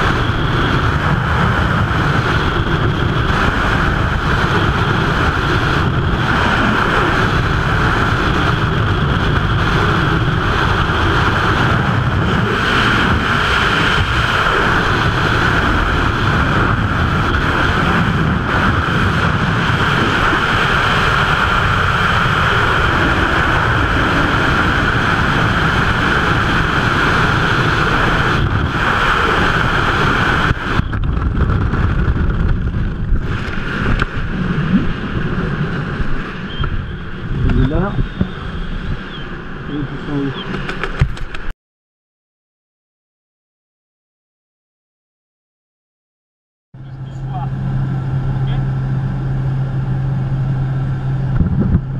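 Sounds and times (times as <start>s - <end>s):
freefall wind buffeting microphone: 0.0s - 41.5s, 46.8s - 51.9s.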